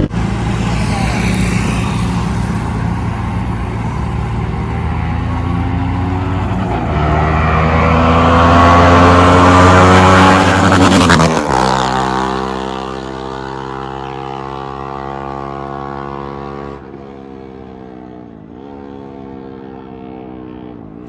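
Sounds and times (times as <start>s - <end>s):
motorcycle engine passing at high revs: 0.0s - 21.0s.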